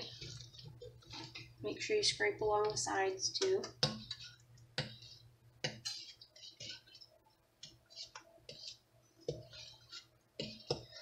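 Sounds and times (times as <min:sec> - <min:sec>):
wooden spatula scraping a pot: 0:00.0 - 0:11.0.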